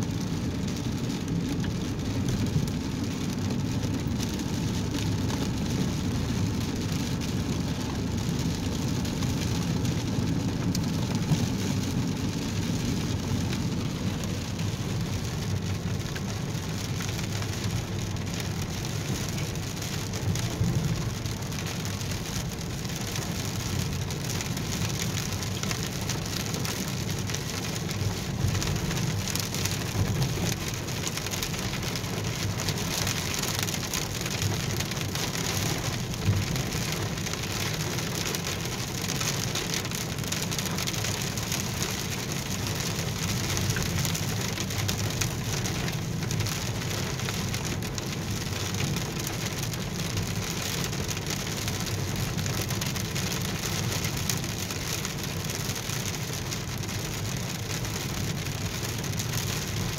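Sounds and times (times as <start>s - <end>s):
low steady rumble: 0.0s - 59.9s
rain pattering on windshield: 0.0s - 59.9s.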